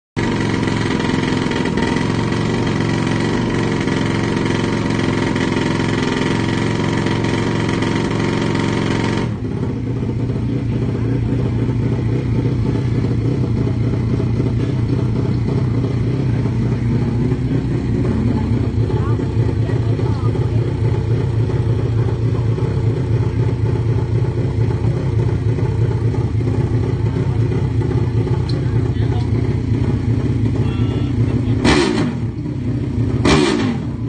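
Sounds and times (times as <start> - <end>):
motorcycle engine revving: 0.2 - 34.0.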